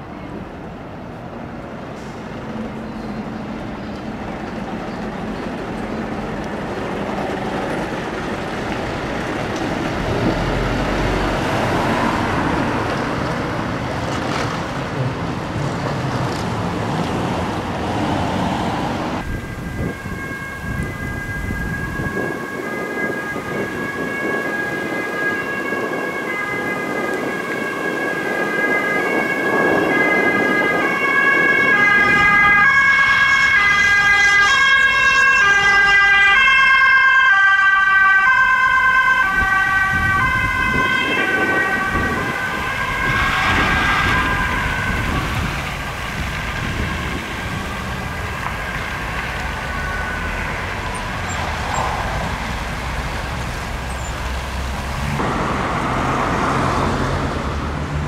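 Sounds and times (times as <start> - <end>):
fire truck driving past: 0.3 - 58.0
police siren: 4.7 - 13.8, 19.2 - 57.7.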